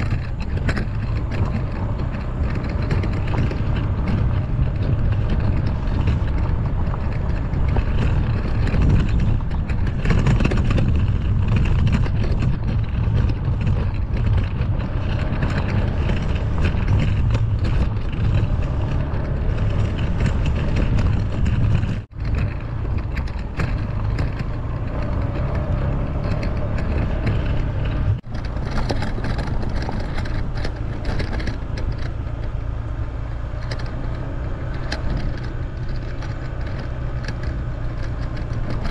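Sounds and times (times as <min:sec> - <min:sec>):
scooter engine running: 0:00.0 - 0:38.9
tyres on gravel: 0:00.0 - 0:38.9.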